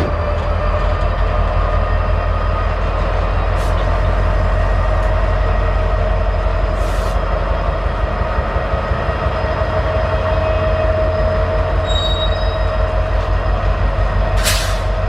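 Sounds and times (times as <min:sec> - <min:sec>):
rail cars rumbling: 0:00.0 - 0:15.0.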